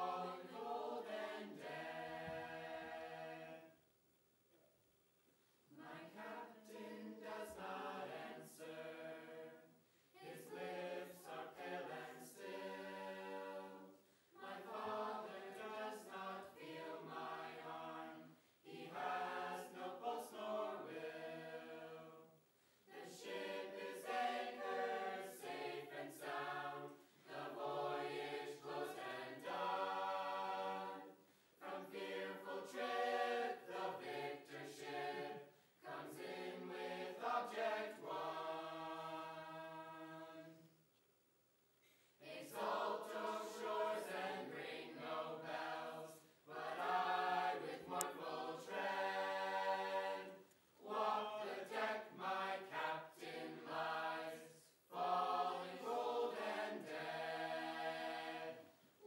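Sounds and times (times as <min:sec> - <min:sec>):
choir singing unaccompanied: 0:00.0 - 0:03.8, 0:05.7 - 0:40.7, 0:42.2 - 0:59.0.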